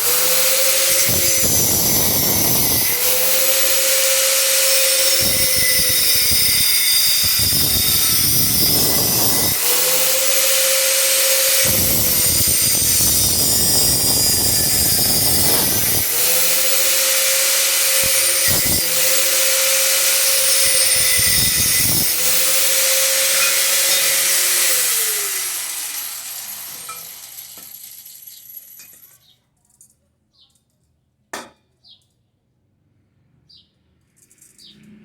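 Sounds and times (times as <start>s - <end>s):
electric cutting tool motor whine: 0.0s - 28.7s
cutting through iron bar: 0.0s - 29.1s.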